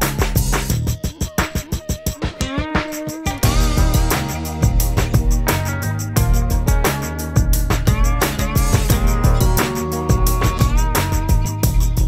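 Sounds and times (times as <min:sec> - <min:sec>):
electronic music with ticking beat: 0:00.0 - 0:12.0.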